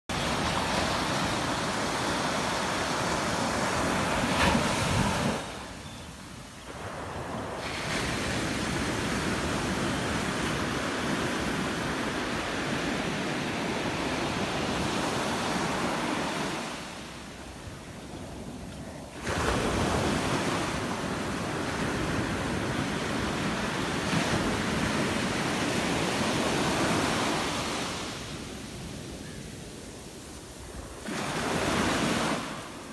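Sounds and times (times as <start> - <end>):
surf breaking on shore: 0.1 - 5.8, 6.7 - 17.2, 19.1 - 28.6, 30.6 - 32.9
wind on microphone: 0.1 - 32.6.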